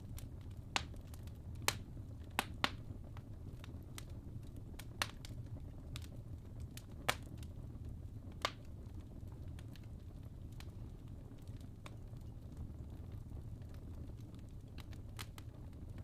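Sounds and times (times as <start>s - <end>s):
fire crackling pops: 0.0s - 16.0s
fire rumbling: 0.0s - 16.0s.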